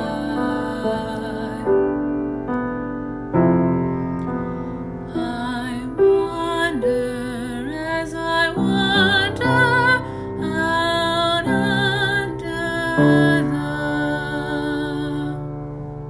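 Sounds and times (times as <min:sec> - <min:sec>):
woman singing with vibrato: 0:00.0 - 0:02.4, 0:05.1 - 0:15.7.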